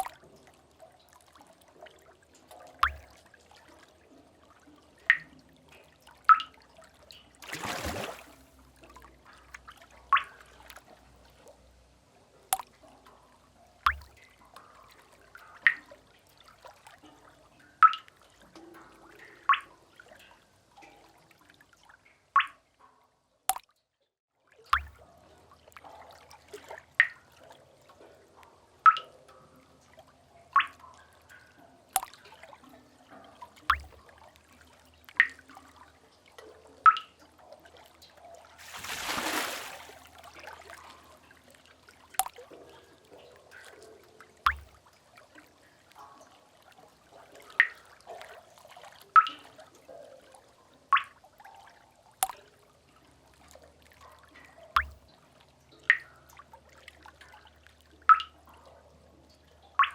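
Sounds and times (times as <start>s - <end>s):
water drops dripping into pool: 0.0s - 11.7s, 12.3s - 23.9s, 24.6s - 59.9s.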